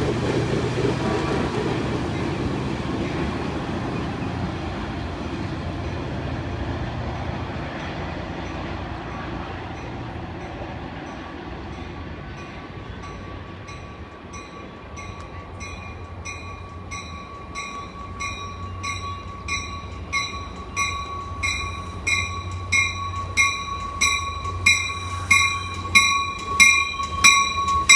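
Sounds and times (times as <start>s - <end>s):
train low rumble: 0.0s - 27.9s
train bell ringing: 5.2s - 27.9s.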